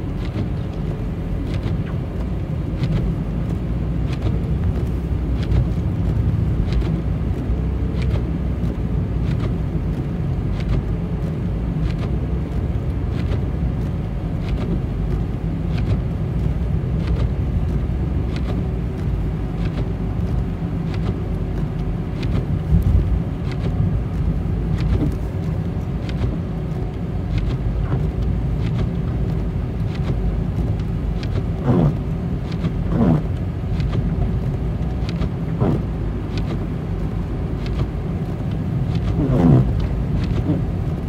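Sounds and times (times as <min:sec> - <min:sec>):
road and engine rumble in car: 0:00.0 - 0:41.0
windshield wiper clicks: 0:00.0 - 0:41.0.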